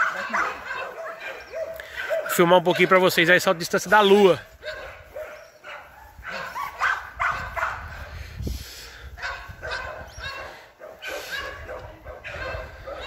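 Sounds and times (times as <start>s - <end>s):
dog barking and yipping: 0.0s - 3.3s, 4.0s - 8.0s, 9.2s - 13.0s.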